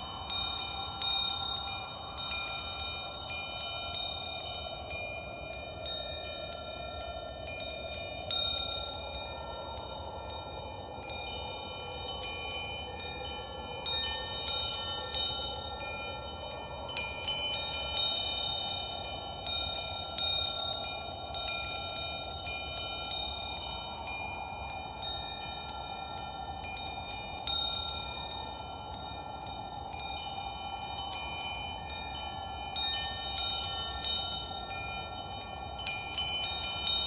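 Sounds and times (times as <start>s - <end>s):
metal wind chimes ringing: 0.0s - 37.0s.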